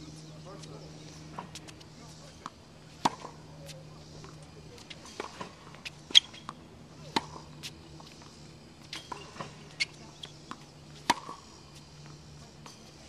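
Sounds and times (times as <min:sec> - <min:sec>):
tennis balls struck and bouncing: 0:00.5 - 0:13.0.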